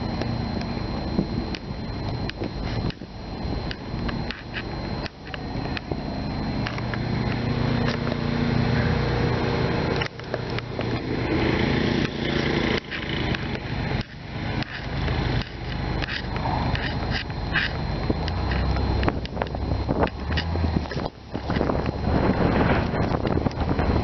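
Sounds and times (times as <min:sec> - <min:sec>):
motor engine running: 0:00.0 - 0:24.0.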